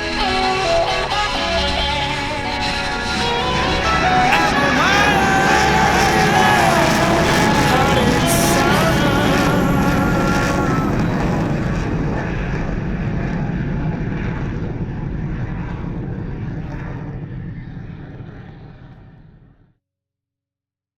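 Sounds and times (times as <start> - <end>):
jet engine rumble: 0.0 - 19.6.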